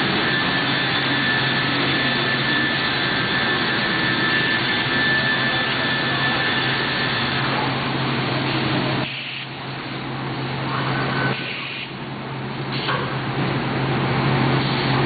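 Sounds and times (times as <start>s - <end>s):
machinery low hum: 0.0s - 15.0s.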